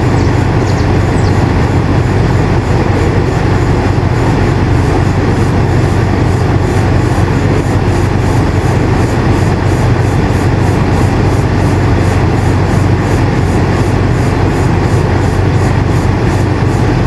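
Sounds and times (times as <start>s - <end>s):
air conditioner running: 0.0s - 17.0s.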